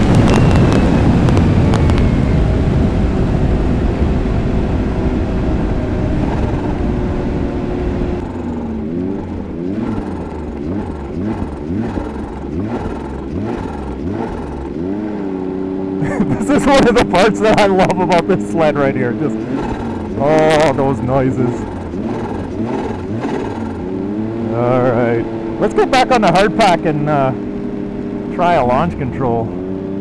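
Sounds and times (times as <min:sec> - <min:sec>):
snowmobile engine running hard: 0:00.0 - 0:30.0.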